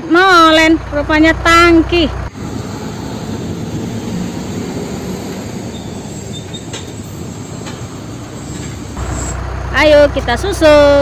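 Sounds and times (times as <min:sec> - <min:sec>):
truck engines and tyres rumbling: 0:00.0 - 0:11.0.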